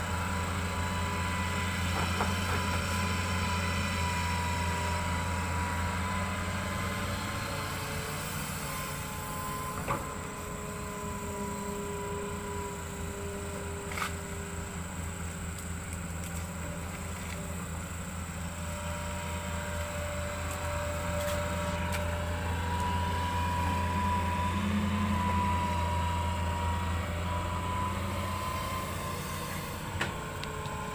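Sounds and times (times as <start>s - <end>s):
excavator diesel engine running: 0.0s - 30.9s
faint high whine: 2.9s - 30.9s.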